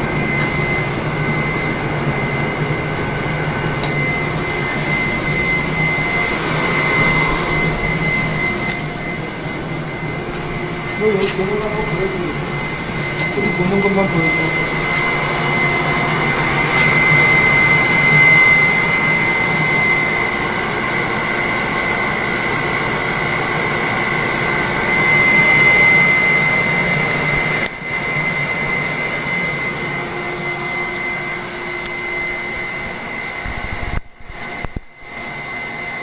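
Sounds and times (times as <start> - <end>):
dryer fan and motor running: 0.0 - 36.0
high whine: 0.0 - 36.0.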